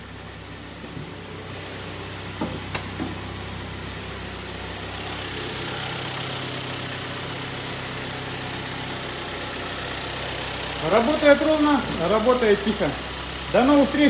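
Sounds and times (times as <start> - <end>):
car engine idling: 0.0 - 14.0
engine knocks: 0.7 - 3.7, 4.7 - 14.0.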